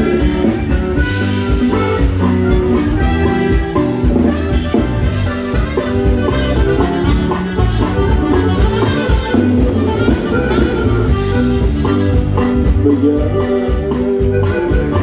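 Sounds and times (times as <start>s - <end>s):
bass: 0.0s - 15.0s
drums dance beat: 0.0s - 15.0s
lead melody: 0.0s - 15.0s.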